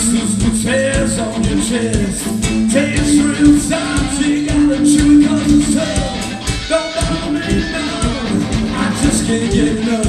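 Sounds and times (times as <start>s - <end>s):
bass guitar: 0.0s - 10.0s
drums: 0.0s - 10.0s
electric guitars: 0.0s - 10.0s
rock band playing: 0.0s - 10.0s.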